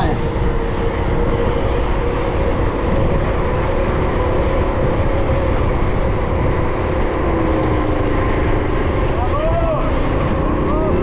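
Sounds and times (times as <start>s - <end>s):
bicycle tyre noise: 0.0s - 11.0s
wind rushing over microphone: 0.0s - 11.0s.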